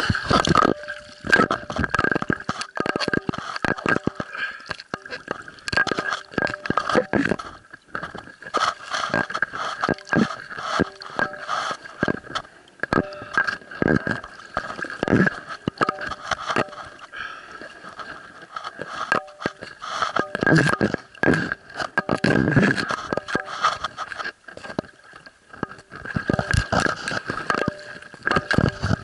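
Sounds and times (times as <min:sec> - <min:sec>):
gurgling water: 0:00.0 - 0:29.0.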